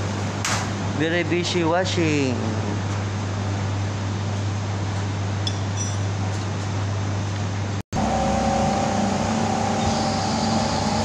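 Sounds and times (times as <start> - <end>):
machine hum with high whine: 0.0 - 11.0
washing machines humming: 0.0 - 11.0.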